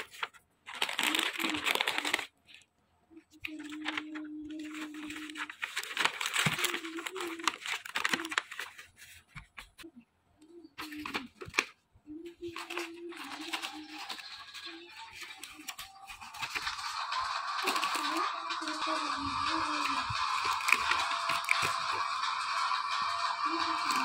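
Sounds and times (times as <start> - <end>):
wrappers and paper bags crinkling: 0.0 - 2.7, 3.3 - 9.9, 10.8 - 24.0.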